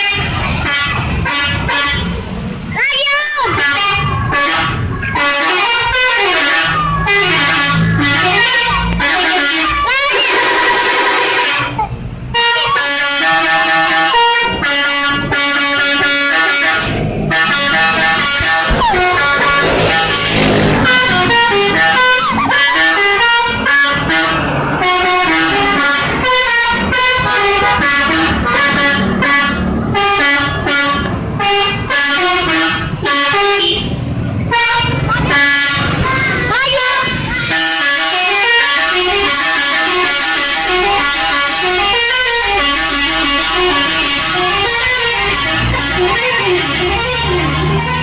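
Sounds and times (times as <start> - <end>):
bus air horns playing a tune: 0.0 - 48.0.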